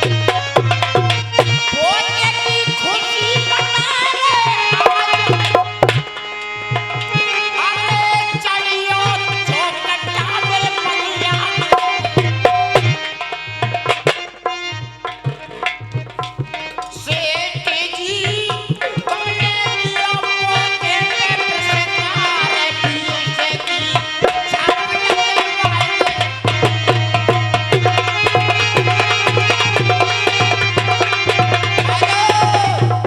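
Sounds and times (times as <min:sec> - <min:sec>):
hand drum rhythm: 0:00.0 - 0:07.3, 0:08.5 - 0:33.0.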